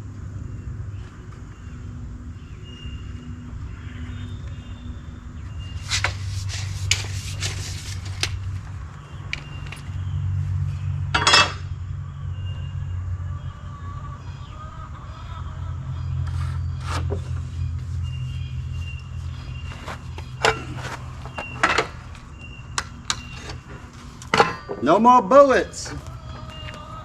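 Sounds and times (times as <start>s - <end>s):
low motor hum: 0.0s - 24.8s.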